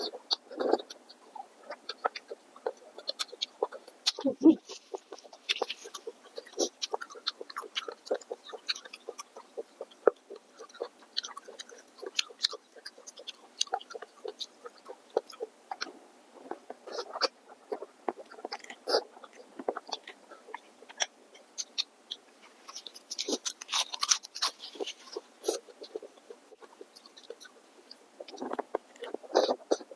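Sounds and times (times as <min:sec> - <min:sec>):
person chewing: 0:00.0 - 0:29.9.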